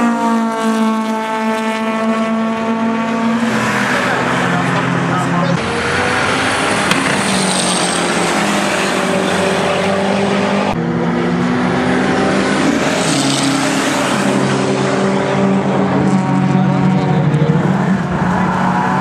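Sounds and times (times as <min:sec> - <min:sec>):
race car engine running hard: 0:01.1 - 0:19.0.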